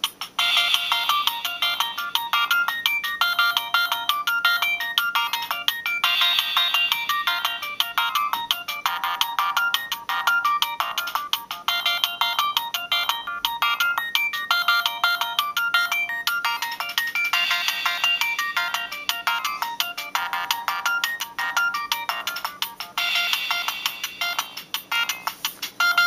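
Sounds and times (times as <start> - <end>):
electronic phone ringtone: 0.4 - 26.0.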